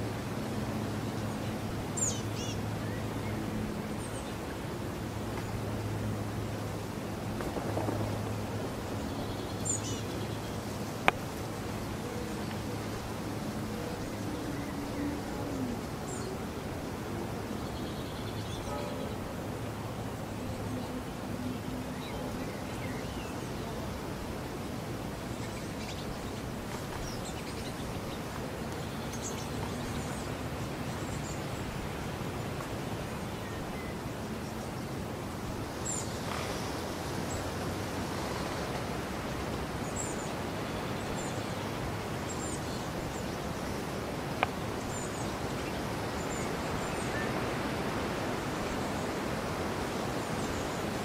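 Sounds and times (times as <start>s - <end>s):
steady rushing noise: 0.0s - 51.0s.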